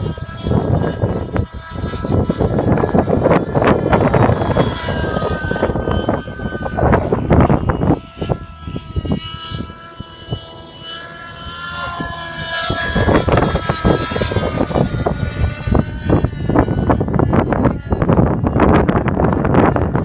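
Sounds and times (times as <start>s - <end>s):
model helicopter engine whine: 0.0s - 20.0s
wind buffeting microphone: 0.0s - 20.0s.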